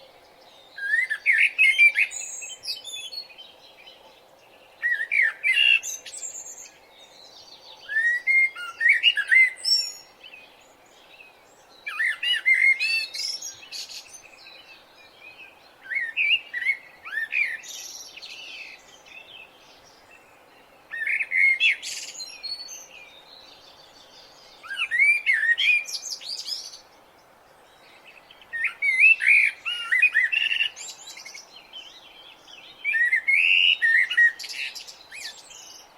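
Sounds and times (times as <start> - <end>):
faint background hiss: 0.0 - 35.9
songbirds singing: 0.0 - 35.9.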